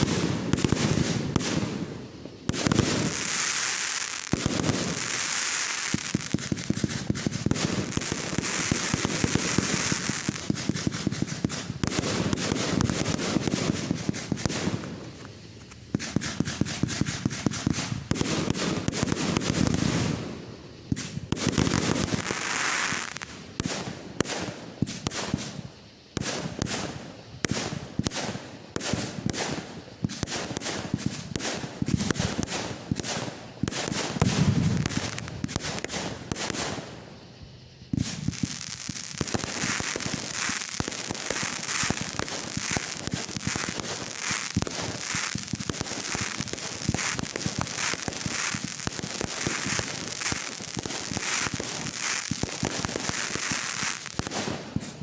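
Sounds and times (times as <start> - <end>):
deep fireworks booms: 0.0 - 55.0
fireworks bangs: 0.0 - 55.0
fireworks crackling: 0.0 - 55.0.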